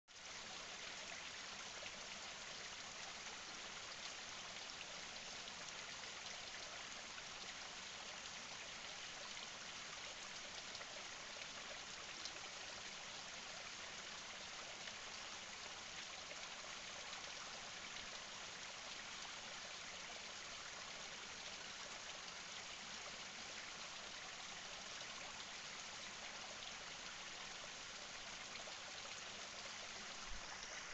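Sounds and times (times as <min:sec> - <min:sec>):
stream trickling over rocks: 0:00.1 - 0:30.9.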